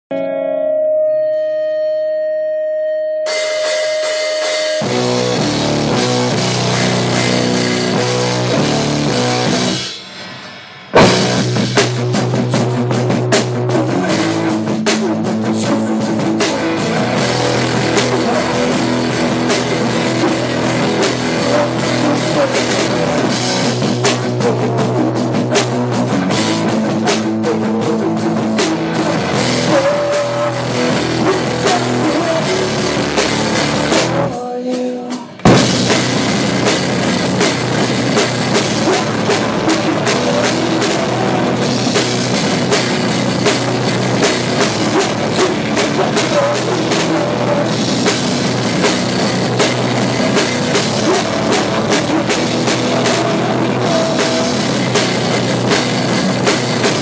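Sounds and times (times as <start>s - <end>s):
loud rock music: 2.8s - 57.0s
fast double bass drum strokes: 4.6s - 57.0s.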